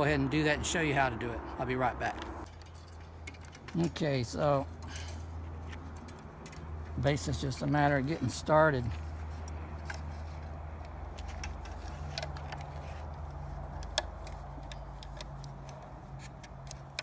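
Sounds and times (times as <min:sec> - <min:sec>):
low background hum: 0:00.0 - 0:16.7.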